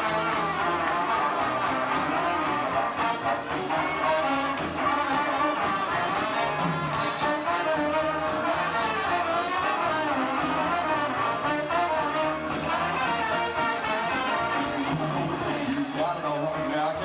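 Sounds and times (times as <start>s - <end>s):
trumpet and trombone melody: 0.0s - 16.4s
drums and bass: 0.0s - 17.0s
swing band playing: 0.0s - 17.0s.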